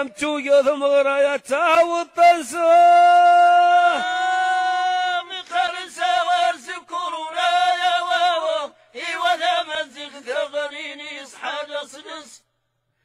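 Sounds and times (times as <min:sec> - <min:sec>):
man chanting a sung poem: 0:00.0 - 0:12.4.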